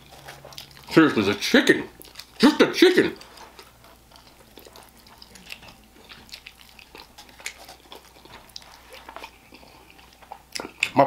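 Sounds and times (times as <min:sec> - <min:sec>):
mouth chewing clicks and smacks: 0:00.0 - 0:11.0.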